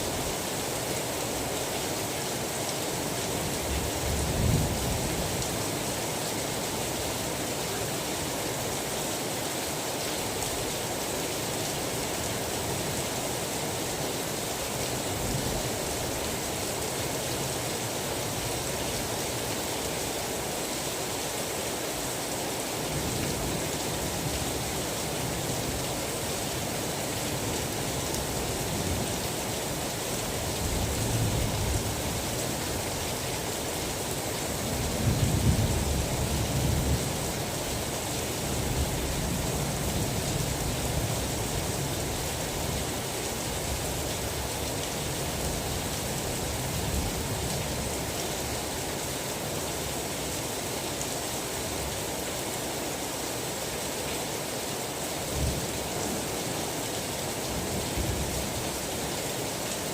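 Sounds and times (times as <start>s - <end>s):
dense rain falling: 0.0s - 59.9s.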